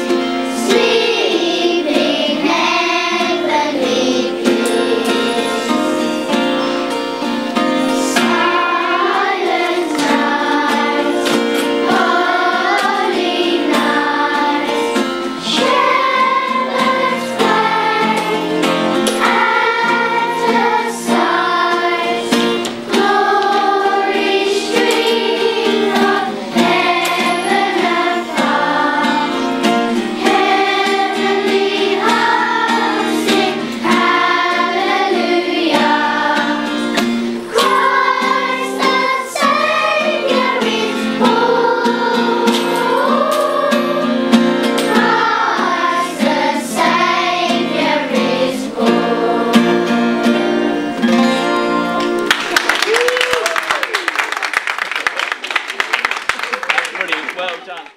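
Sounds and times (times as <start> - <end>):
children's choir singing a carol: 0.0 - 51.9.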